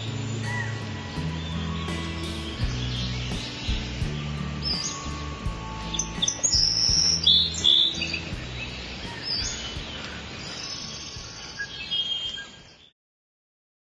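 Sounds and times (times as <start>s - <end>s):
low soundtrack music: 0.0s - 11.4s
birds chirping: 0.0s - 12.9s.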